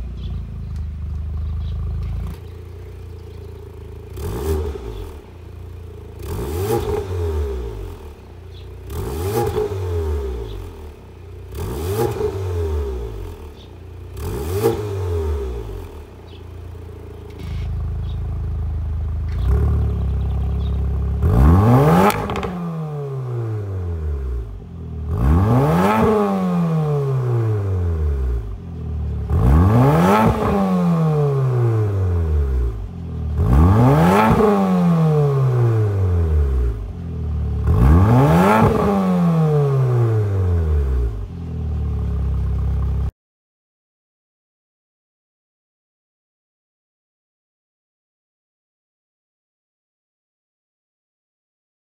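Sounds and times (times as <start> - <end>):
car engine revving: 0.2 - 43.1.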